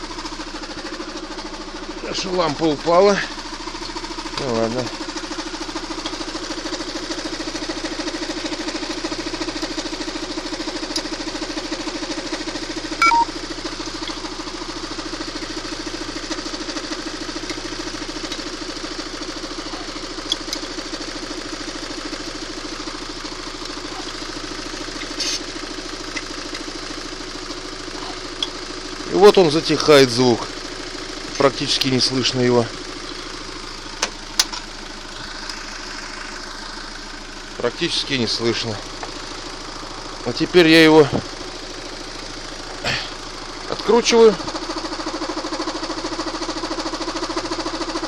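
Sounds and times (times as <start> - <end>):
car engine idling: 0.0 - 48.0
faint timing drive rattle: 0.0 - 48.0.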